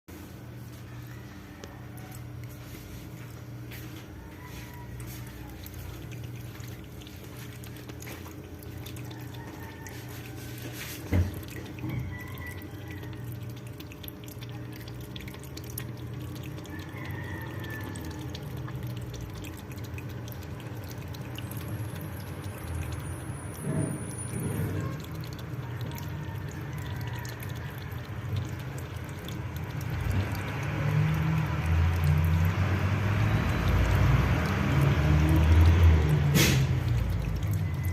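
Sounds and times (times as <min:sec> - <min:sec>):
pet lapping water: 0:00.2 - 0:37.9.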